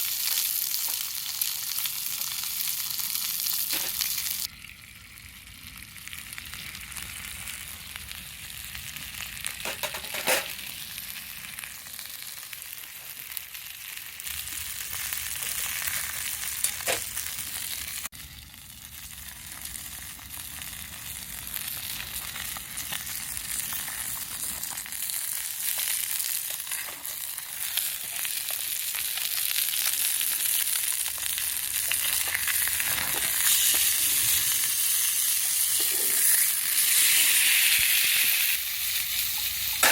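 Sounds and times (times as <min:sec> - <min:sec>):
chicken sizzling in a pan: 0:00.0 - 0:39.9.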